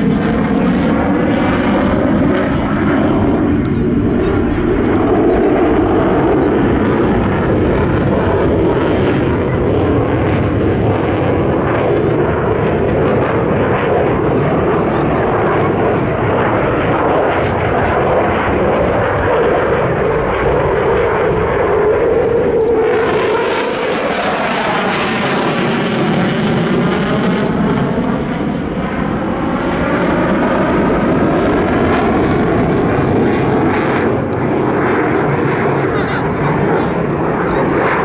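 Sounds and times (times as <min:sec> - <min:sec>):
fighter jet engines roaring: 0:00.0 - 0:38.0.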